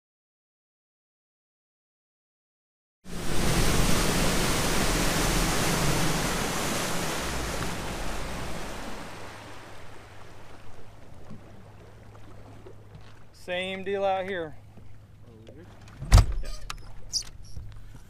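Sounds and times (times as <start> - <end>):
boat engine rumble: 3.1 - 18.0
low engine hum: 3.1 - 18.0
wind and water rushing: 3.1 - 18.0.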